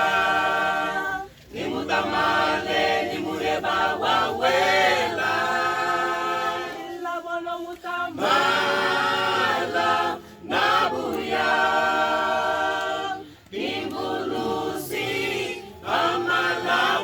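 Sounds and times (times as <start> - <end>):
choir singing a cappella: 0.0 - 17.0.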